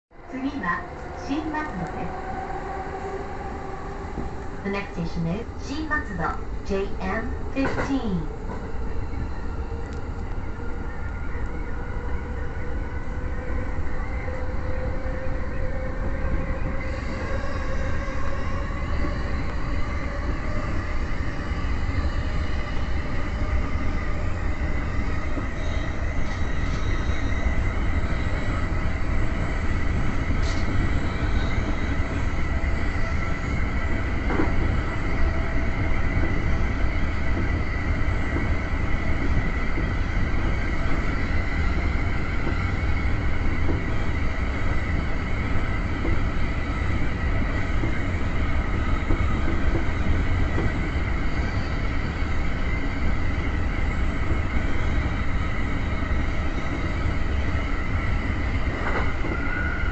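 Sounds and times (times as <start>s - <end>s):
train wheels rumbling on rails: 0.3s - 59.9s.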